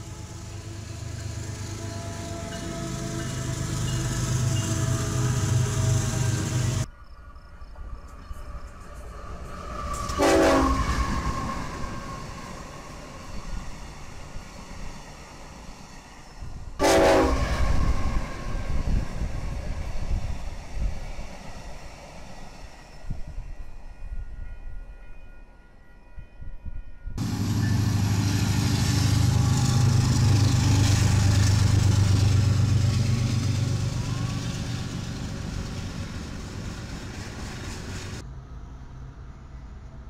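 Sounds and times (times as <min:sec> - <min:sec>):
wheel and rail noise: 0:00.0 - 0:06.9, 0:07.7 - 0:23.9, 0:27.2 - 0:38.4
locomotive hum: 0:00.0 - 0:24.6, 0:27.1 - 0:40.0
diesel locomotive engine drone: 0:00.0 - 0:40.0
train rumbling: 0:00.0 - 0:40.0.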